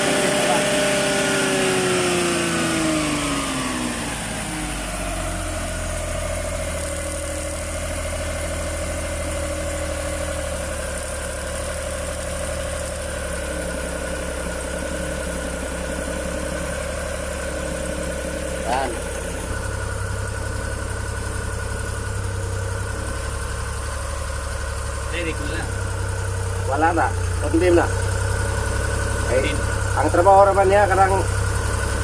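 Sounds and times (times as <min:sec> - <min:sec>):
engine idling unevenly: 0:00.0 - 0:32.0.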